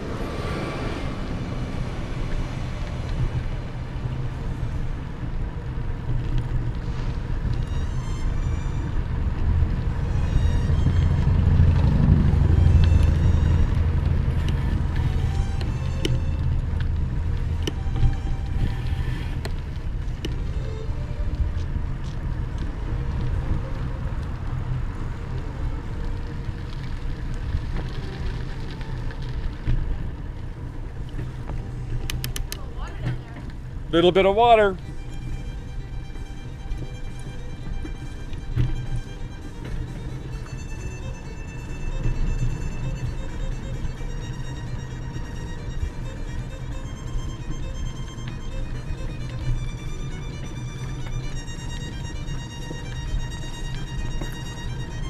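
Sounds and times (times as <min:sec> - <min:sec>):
bicycle rolling noise: 0:00.0 - 0:55.0
wind buffeting: 0:00.0 - 0:55.0.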